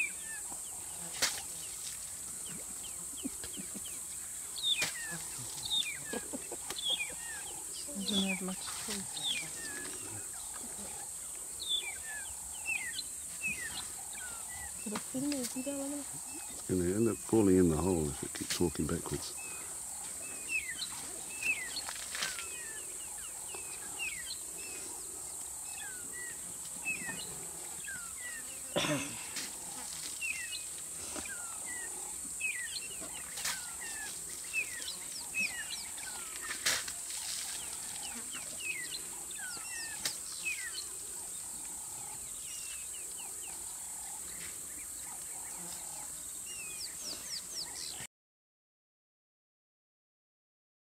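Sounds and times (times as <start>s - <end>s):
insect drone: 0.0s - 48.0s.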